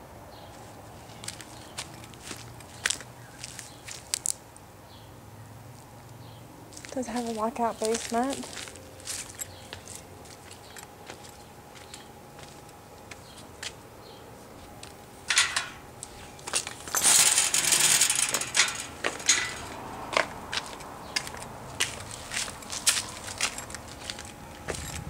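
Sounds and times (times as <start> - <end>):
rustling and crunching of dry shrubs: 0.4 - 4.5, 6.7 - 25.0.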